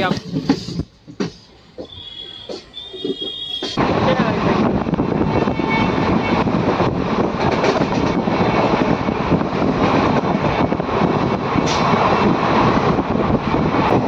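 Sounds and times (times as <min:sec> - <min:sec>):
train wheel and wind rush: 0:00.0 - 0:14.0.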